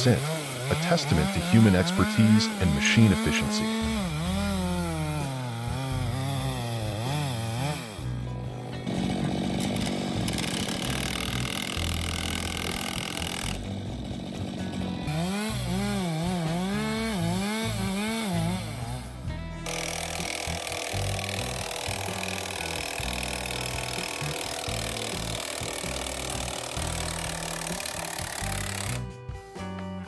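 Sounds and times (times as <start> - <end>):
chainsaw revving: 0.0 - 29.1
background music: 0.0 - 30.0.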